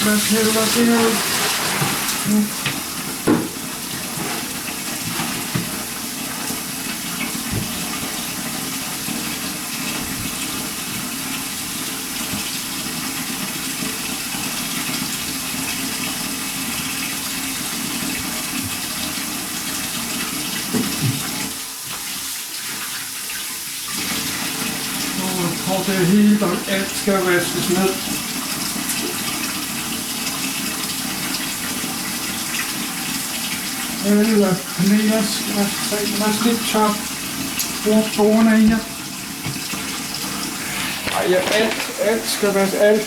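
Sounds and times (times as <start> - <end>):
water running from tap into sink: 0.0 - 43.0.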